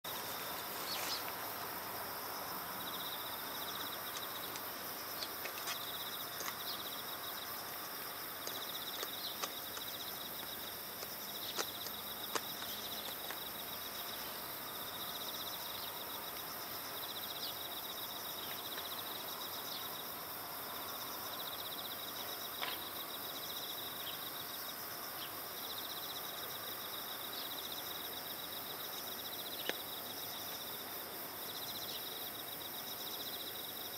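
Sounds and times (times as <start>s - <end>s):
steady outdoor hiss: 0.0s - 33.9s
insects trilling: 0.1s - 33.9s.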